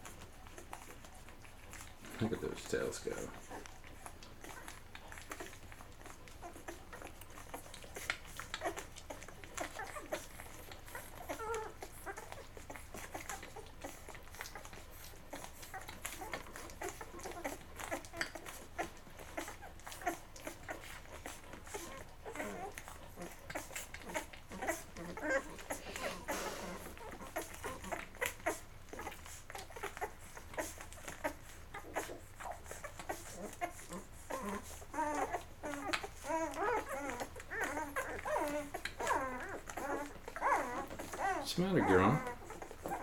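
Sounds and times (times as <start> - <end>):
dog whimpers: 0.0 - 43.0
puppies suckling and grunting: 0.0 - 43.0.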